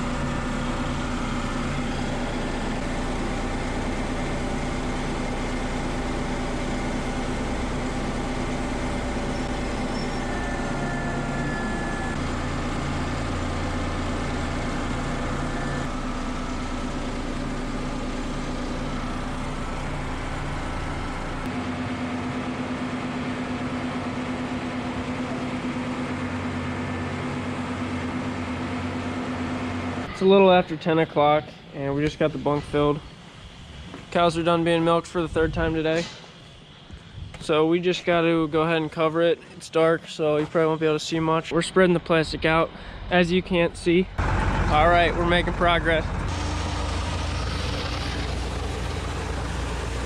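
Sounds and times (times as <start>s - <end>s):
tractor engine rumbling: 0.0s - 41.0s, 41.8s - 50.0s.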